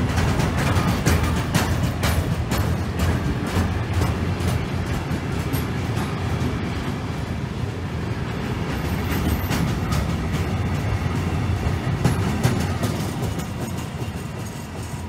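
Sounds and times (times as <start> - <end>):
wheels clicking over rail joints: 0.0 - 7.4, 8.3 - 15.0
train wheels rumbling on rail: 0.0 - 15.0.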